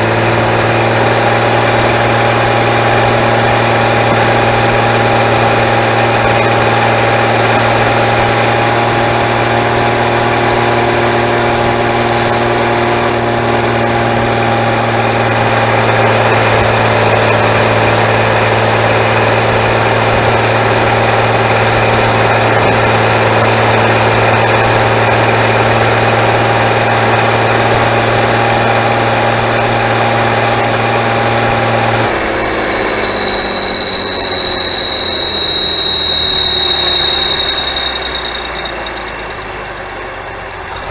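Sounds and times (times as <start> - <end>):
tractor diesel engine running: 0.0 - 40.9
turbocharger whistle: 0.0 - 40.9.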